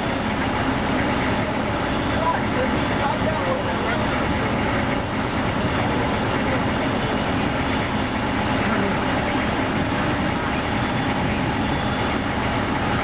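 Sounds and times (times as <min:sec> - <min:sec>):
fire engine droning: 0:00.0 - 0:13.0
water rushing through hoses: 0:00.0 - 0:13.0.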